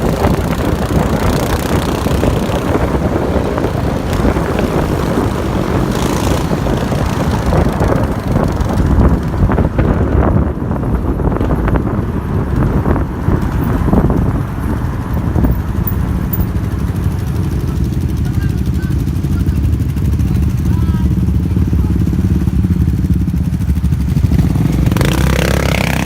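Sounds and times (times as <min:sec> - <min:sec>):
quad bike engines running: 0:00.0 - 0:26.0
wind rumble on microphone: 0:00.0 - 0:26.0.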